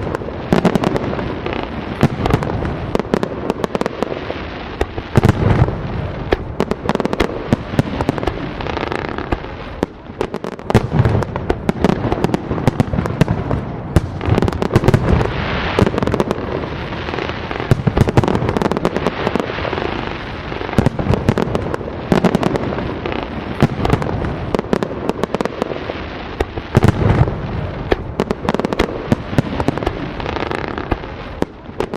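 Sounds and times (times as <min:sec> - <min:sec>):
firework shells booming: 0:00.0 - 0:31.9
fireworks crackling: 0:00.0 - 0:31.9.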